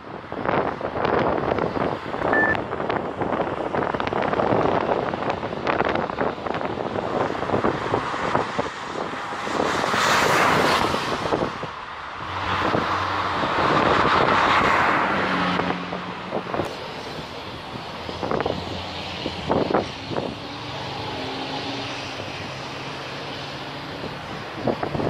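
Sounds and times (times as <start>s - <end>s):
cars driving by: 0.0s - 25.0s
wind buffeting microphone: 0.0s - 25.0s.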